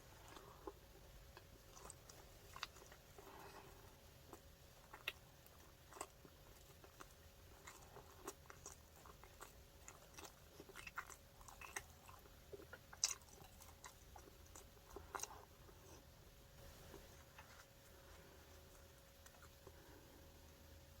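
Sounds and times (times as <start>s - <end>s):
chewing with mouth clicks: 0.0s - 16.1s, 16.9s - 20.0s.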